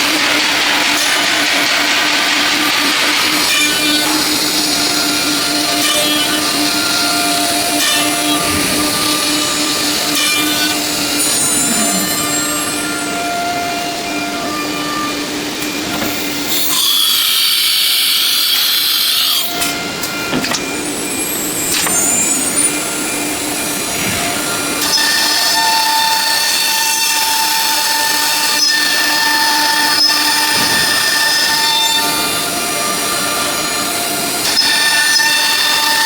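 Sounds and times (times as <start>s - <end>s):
router cutting wood: 0.0s - 36.0s
router spindle whining: 0.0s - 36.0s.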